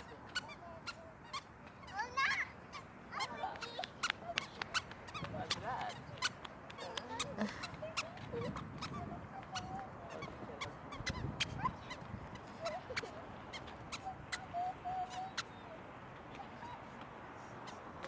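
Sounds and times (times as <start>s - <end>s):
faint shoe squeaks: 0.0s - 18.0s.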